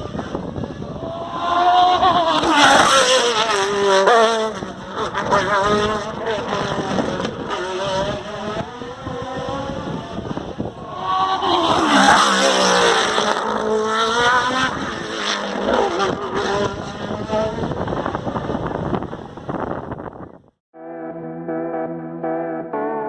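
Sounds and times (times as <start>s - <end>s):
race car accelerating past: 0.0s - 19.6s.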